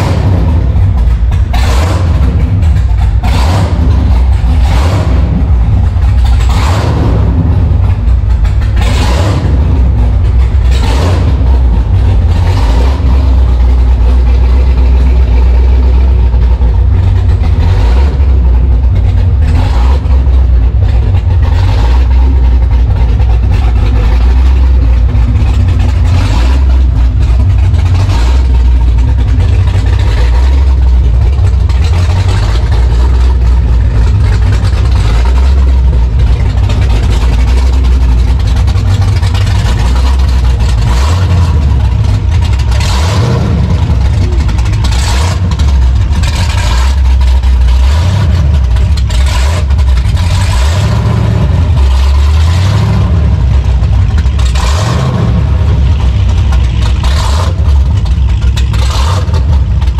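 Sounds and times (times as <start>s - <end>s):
v eight engine revving: 0.0s - 59.9s.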